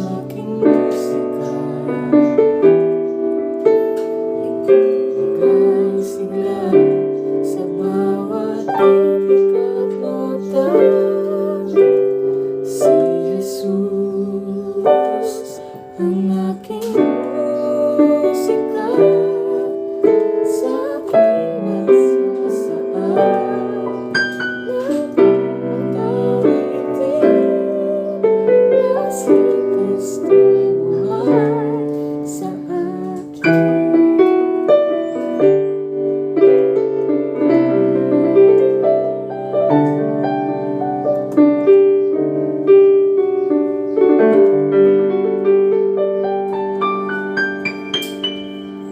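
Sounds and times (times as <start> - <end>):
digital piano playing chords: 0.0 - 48.9.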